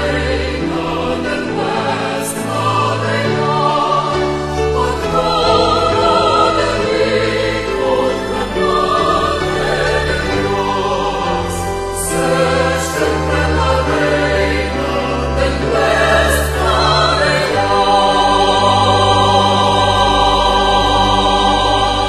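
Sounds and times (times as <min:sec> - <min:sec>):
choir singing a hymn: 0:00.0 - 0:22.0
instrumental accompaniment: 0:00.0 - 0:22.0.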